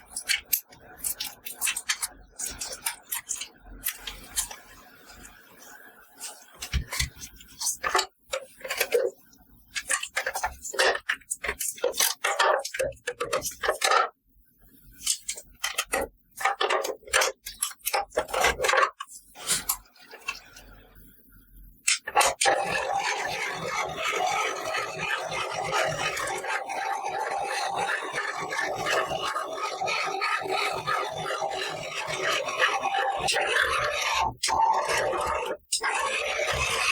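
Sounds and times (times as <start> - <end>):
scratchy rubbing and scraping: 0.0 - 14.2, 14.9 - 20.8, 21.9 - 36.9.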